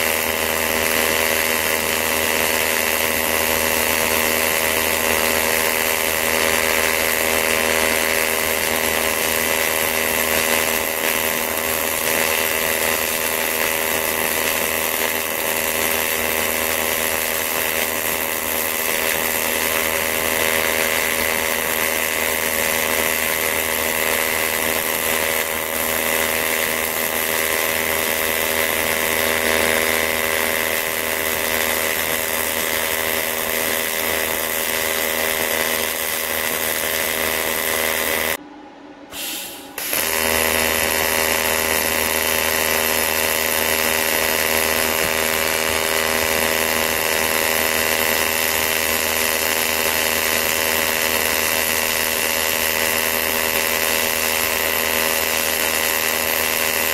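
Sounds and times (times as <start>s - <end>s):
welding arc buzzing: 0.0s - 38.4s, 39.1s - 56.9s.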